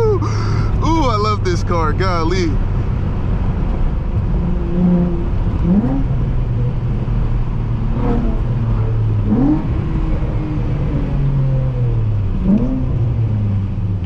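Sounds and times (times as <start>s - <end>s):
car engine revving while driving: 0.0s - 14.0s.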